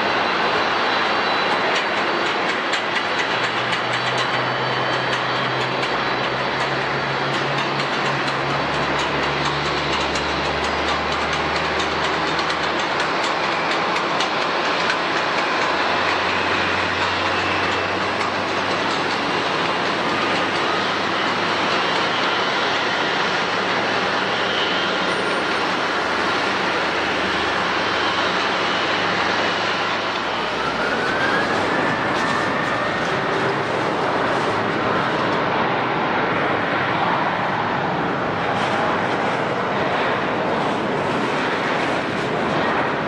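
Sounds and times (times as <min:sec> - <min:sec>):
engine whine: 0:00.0 - 0:43.0
jet engines running: 0:00.0 - 0:43.0.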